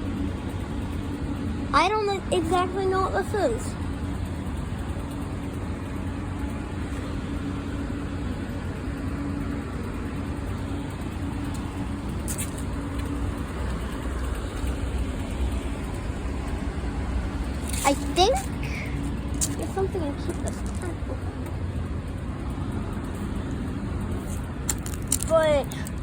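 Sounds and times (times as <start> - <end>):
air conditioning unit humming: 0.0 - 26.0.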